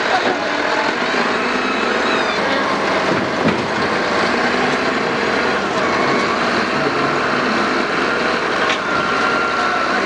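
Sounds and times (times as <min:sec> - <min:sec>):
diesel machinery running: 0:00.0 - 0:10.0.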